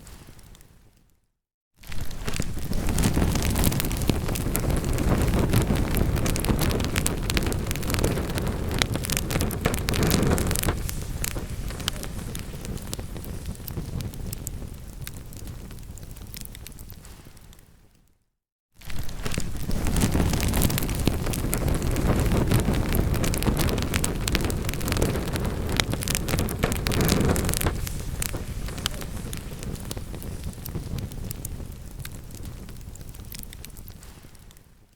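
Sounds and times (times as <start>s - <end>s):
fire crackling and popping: 1.8s - 17.7s, 18.8s - 34.7s
low rumble of flame: 1.9s - 17.1s, 18.8s - 34.6s
low rush of burning: 2.0s - 16.6s, 18.9s - 34.5s.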